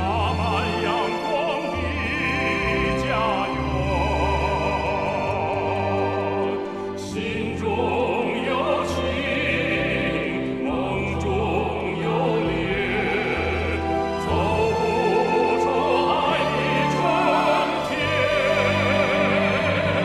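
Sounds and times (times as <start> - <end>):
orchestral accompaniment: 0.0 - 20.0
person singing with vibrato: 0.0 - 20.0.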